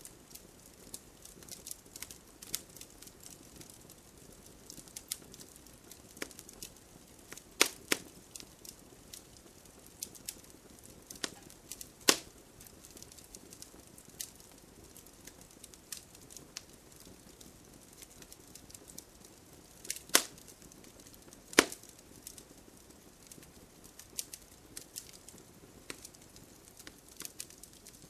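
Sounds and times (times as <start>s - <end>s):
sharp fire snaps: 0.0s - 28.0s
wood fire crackling: 0.0s - 28.0s.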